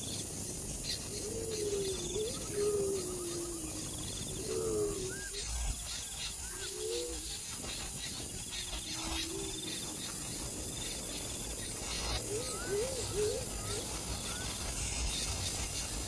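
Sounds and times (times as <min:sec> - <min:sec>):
birds low rising and falling calls: 0:00.0 - 0:16.0
faint buzzing insect trill: 0:00.0 - 0:16.0.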